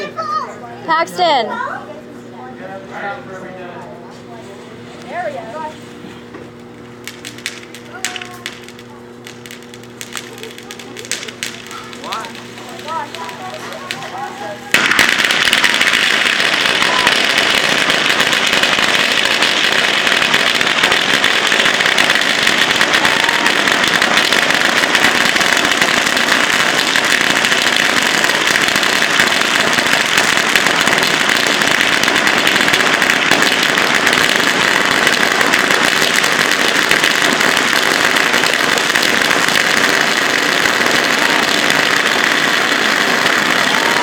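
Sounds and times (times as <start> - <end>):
firework fountain hissing: 5.0 - 44.0.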